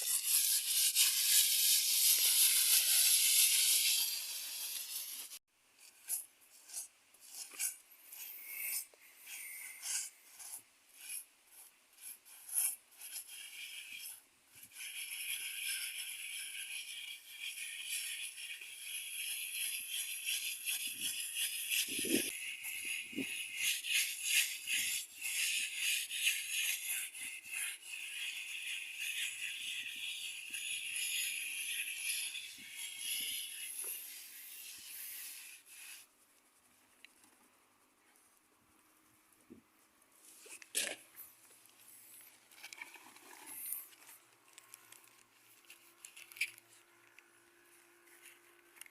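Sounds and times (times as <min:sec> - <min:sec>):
tool scraping cement: 0:00.0 - 0:48.9.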